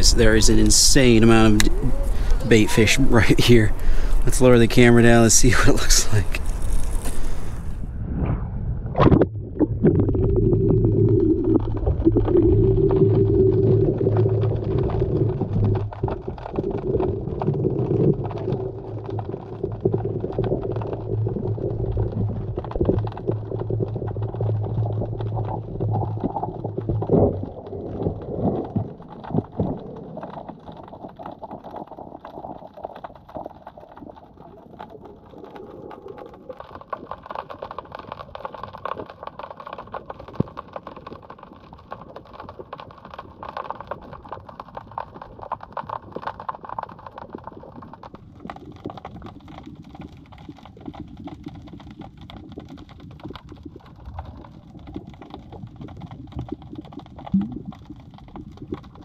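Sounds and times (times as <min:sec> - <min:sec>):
crackle of tiny clicks: 0:00.0 - 0:02.5, 0:03.7 - 0:07.7, 0:09.1 - 0:59.0
muffled underwater wash: 0:00.0 - 0:59.0.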